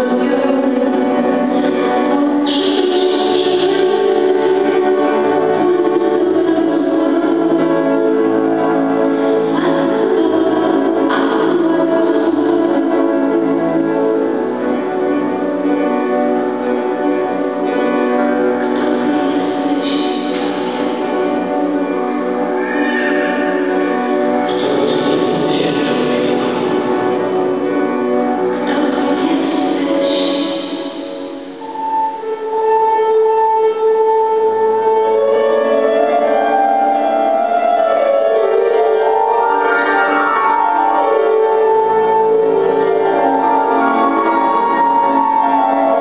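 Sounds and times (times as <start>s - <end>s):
grand piano chords: 0.0s - 46.0s.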